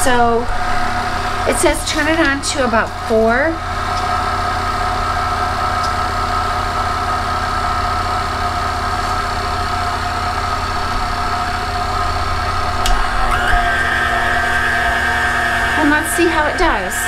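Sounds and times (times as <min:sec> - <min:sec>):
mixer motor whining: 0:00.0 - 0:17.0.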